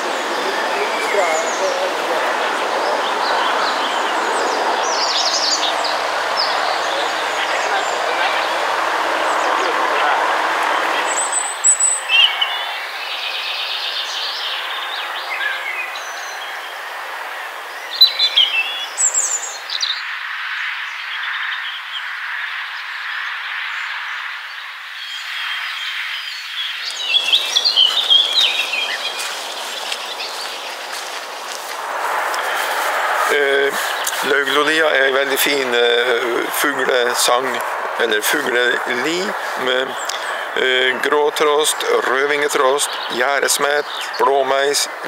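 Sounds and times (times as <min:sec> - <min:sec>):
songbirds singing: 0:00.0 - 0:45.0.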